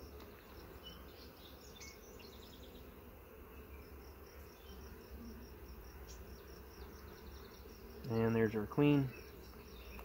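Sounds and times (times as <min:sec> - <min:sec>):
honeybees humming: 0:00.0 - 0:10.0.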